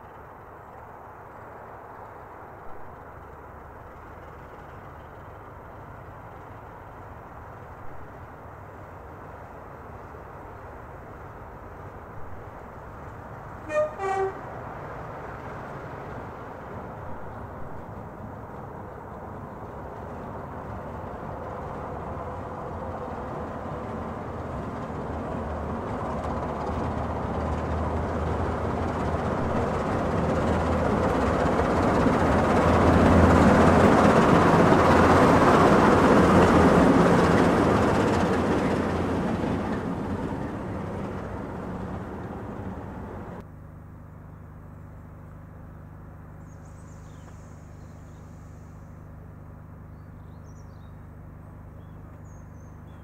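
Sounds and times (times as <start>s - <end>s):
engine idling hum: 0.0s - 14.6s, 15.4s - 53.0s
diesel locomotive engine working: 0.0s - 53.0s.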